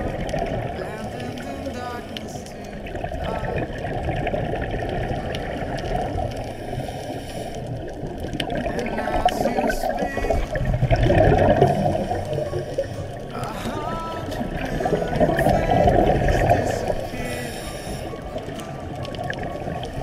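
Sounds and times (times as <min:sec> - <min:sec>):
muffled underwater noise: 0:00.0 - 0:20.0.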